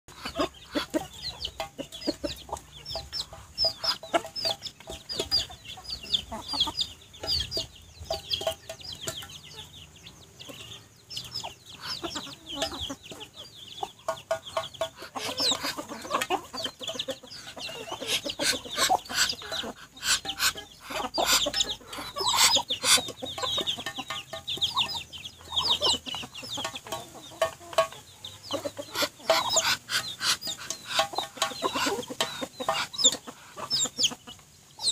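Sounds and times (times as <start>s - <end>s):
beaks pecking metal bowl: 0.1s - 9.7s, 14.0s - 34.2s
chickens clucking: 0.1s - 34.9s
chicks peeping: 0.1s - 34.9s.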